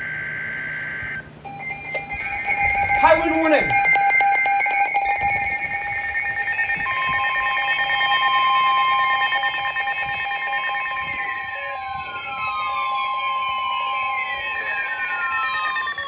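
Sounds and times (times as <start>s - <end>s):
buzzy data tones: 0.0s - 16.0s
steady warning alarm tone: 0.0s - 16.0s
falling tones: 1.5s - 16.0s.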